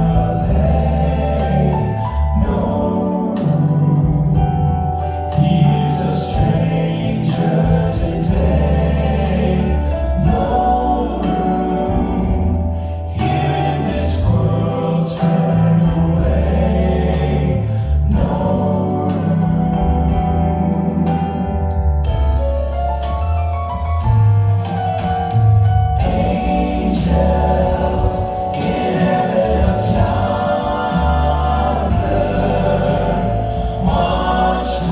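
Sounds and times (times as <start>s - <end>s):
group of singers singing: 0.0s - 21.8s, 26.0s - 34.9s
instrumental backing with bass line: 0.0s - 34.9s.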